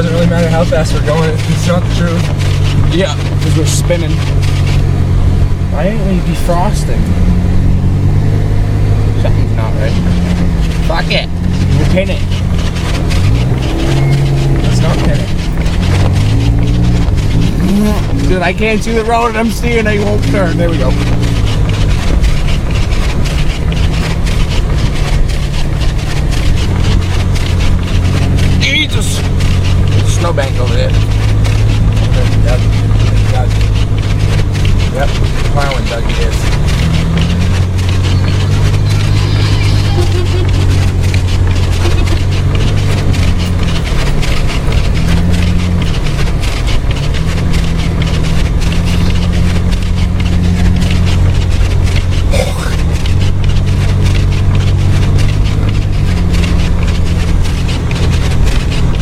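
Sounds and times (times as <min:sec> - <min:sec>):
car engine running: 0:00.0 - 0:59.0
tyres on snowy road: 0:00.0 - 0:59.0.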